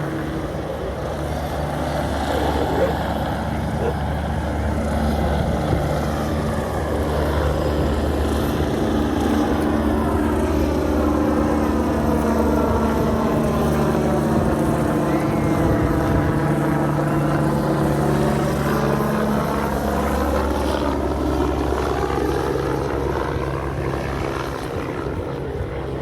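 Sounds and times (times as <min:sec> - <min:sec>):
motorised craft engine drone: 0:00.0 - 0:26.0.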